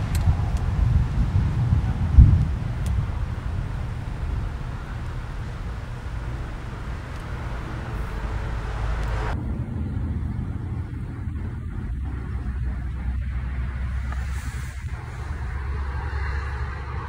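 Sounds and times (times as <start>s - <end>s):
steady hiss: 0.0s - 9.4s, 11.6s - 17.0s
distant thunder rumbling: 0.0s - 14.2s.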